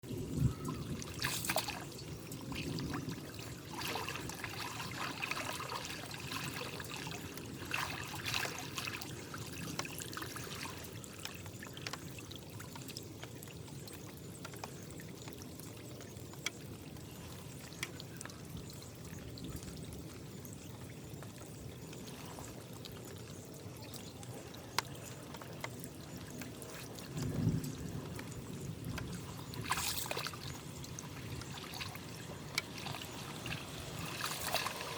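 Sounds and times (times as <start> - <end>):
water pouring and trickling: 0.0 - 34.9.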